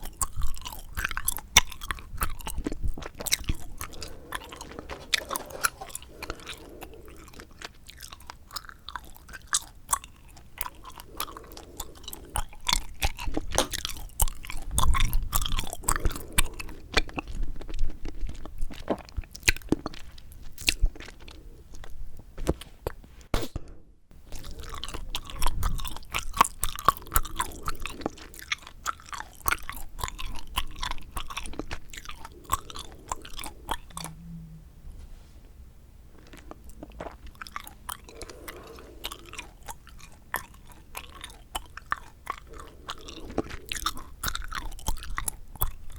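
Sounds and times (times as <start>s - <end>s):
gum chewing mouth clicks and smacks: 0.0s - 23.0s, 24.2s - 34.2s, 36.2s - 45.9s.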